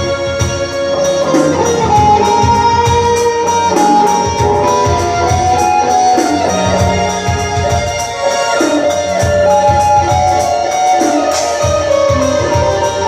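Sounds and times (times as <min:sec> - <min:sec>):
keyboard plucked-string melody: 0:00.0 - 0:13.0
steady drum beat: 0:00.0 - 0:13.0.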